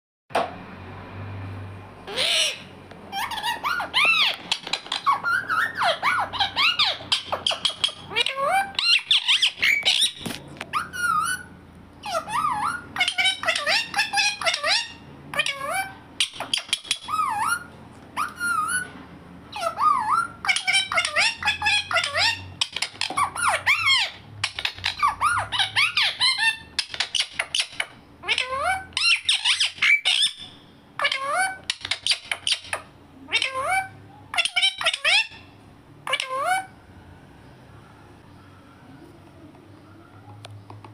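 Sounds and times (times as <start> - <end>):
parrot chattering squeaky calls: 2.0 - 36.8.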